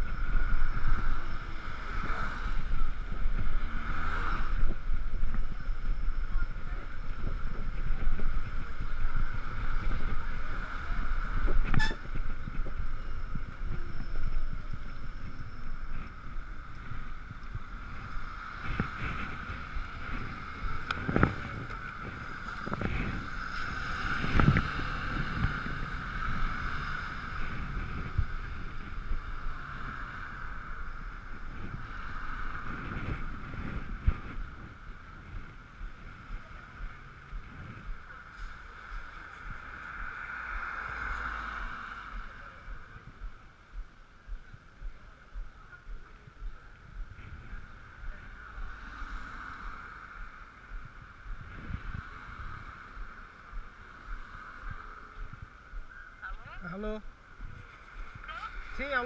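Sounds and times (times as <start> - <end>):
wind buffeting camera: 0.0 - 59.0.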